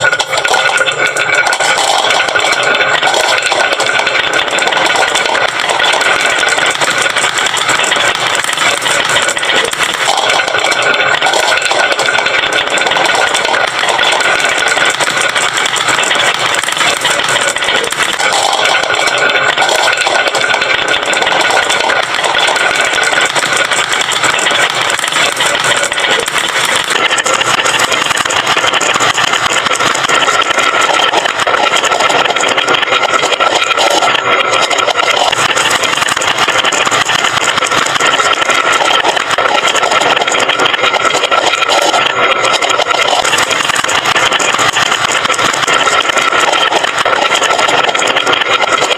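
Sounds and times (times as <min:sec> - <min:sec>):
marbles rattling down wooden run: 0:00.0 - 0:48.9.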